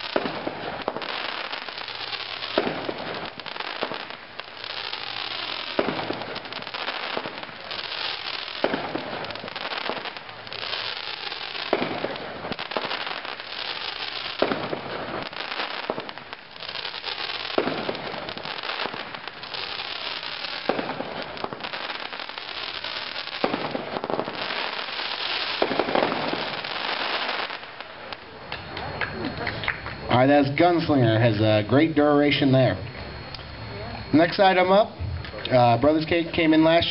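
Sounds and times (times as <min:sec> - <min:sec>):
firework bangs: 0:00.0 - 0:30.1
firework crackling: 0:00.0 - 0:36.9.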